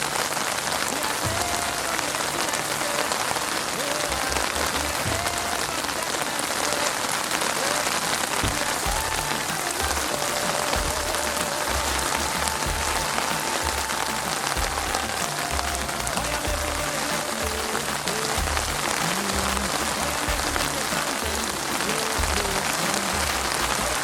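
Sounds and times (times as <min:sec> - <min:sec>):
heavy rain on street: 0:00.0 - 0:24.0.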